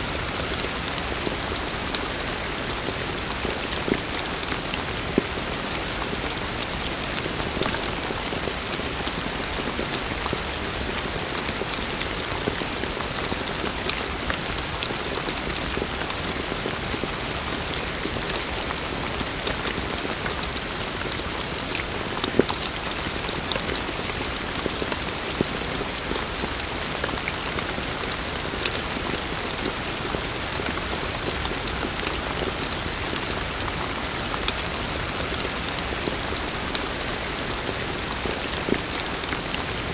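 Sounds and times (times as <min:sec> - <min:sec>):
heavy rain falling: 0:00.0 - 0:39.9
raindrops ticking: 0:00.0 - 0:39.9.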